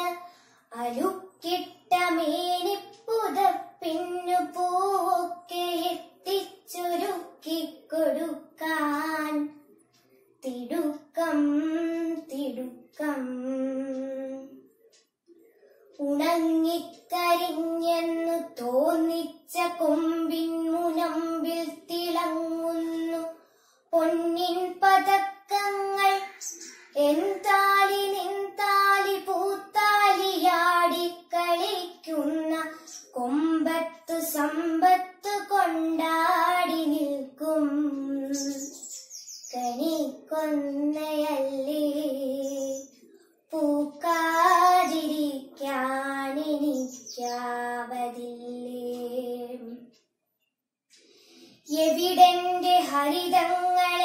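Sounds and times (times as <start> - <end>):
girl singing unaccompanied: 0.0 - 9.7, 10.4 - 14.7, 15.8 - 50.0, 51.5 - 54.0.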